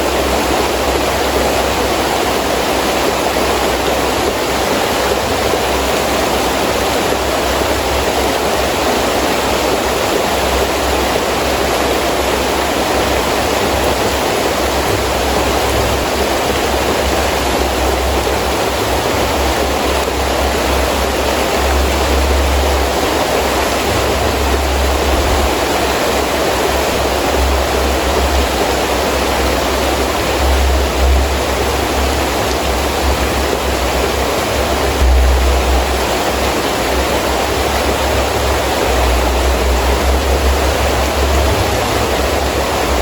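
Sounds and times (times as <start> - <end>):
heavy rain hissing: 0.0 - 43.0
low rumbling wind: 0.0 - 43.0.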